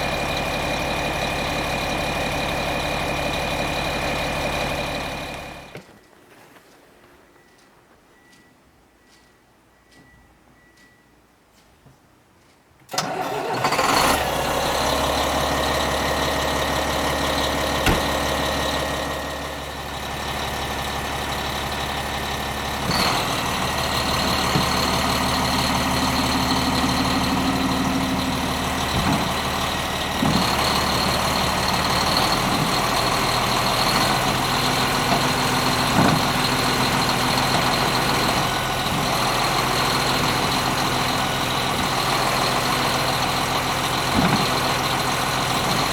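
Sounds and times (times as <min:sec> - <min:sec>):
diesel engine running: 0:00.0 - 0:05.8, 0:13.0 - 0:45.9.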